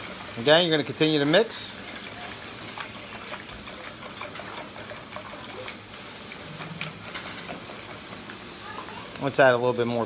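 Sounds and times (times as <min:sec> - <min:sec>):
whisk beating eggs in bowl: 0:00.0 - 0:08.1.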